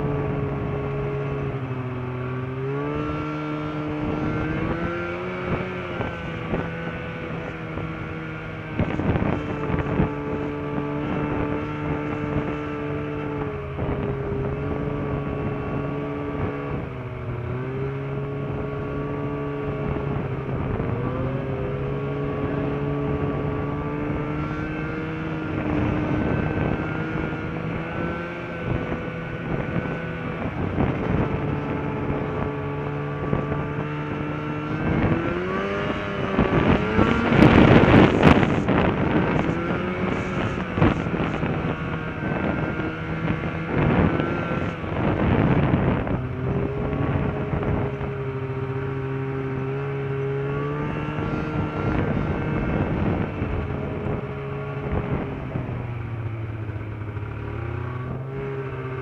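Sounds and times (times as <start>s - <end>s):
snowmobile engine cruising: 0.0s - 59.0s.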